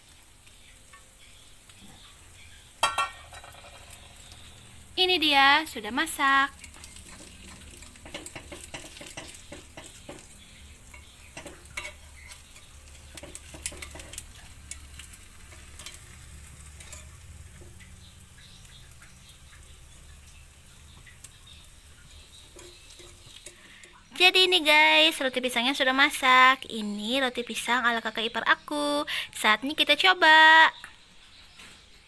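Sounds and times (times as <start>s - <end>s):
cakes sizzling in metal mold: 0.0s - 30.8s.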